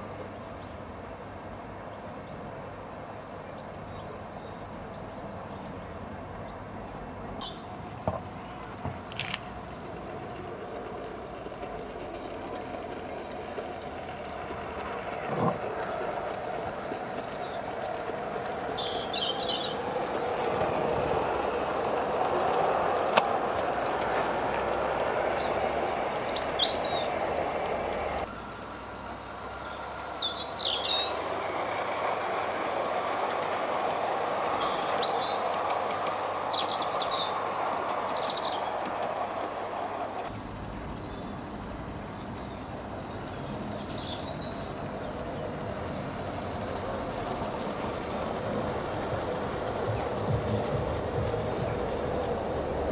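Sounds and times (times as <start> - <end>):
birds chirping: 0.0 - 52.9
model train wheels rumbling on rail: 0.0 - 52.9.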